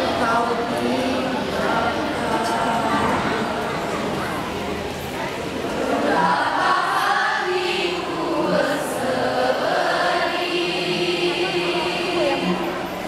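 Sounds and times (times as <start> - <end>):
choir singing in harmony: 0.0 - 4.2, 5.6 - 13.0.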